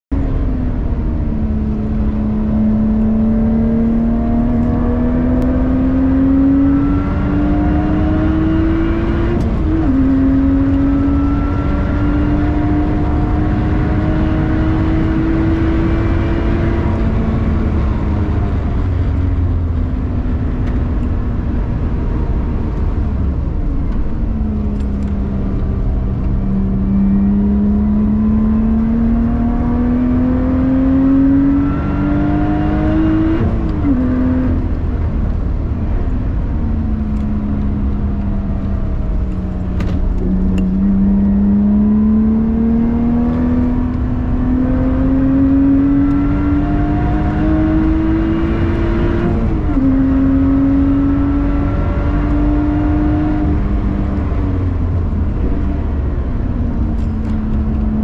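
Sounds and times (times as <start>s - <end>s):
road and tyre noise: 0.1s - 58.0s
car engine accelerating hard: 0.2s - 58.0s.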